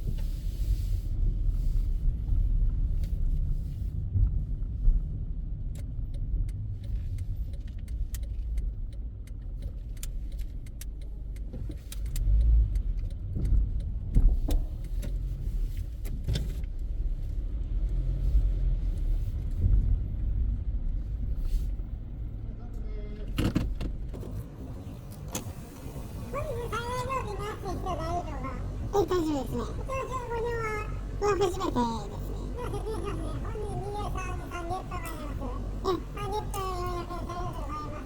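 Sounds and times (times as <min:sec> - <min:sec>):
car rumble from inside cabin: 0:00.0 - 0:38.0.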